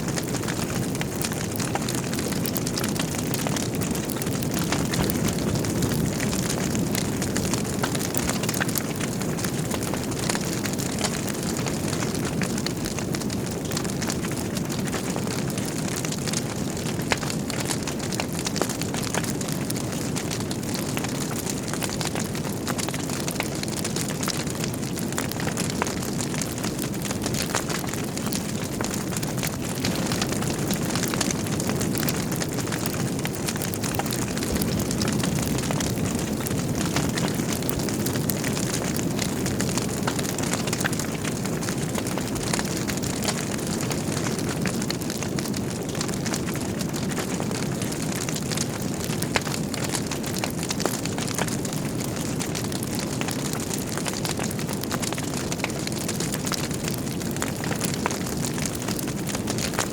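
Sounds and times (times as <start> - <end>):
logs crackling and popping: 0.0 - 59.9
low rush of flame: 0.1 - 59.9.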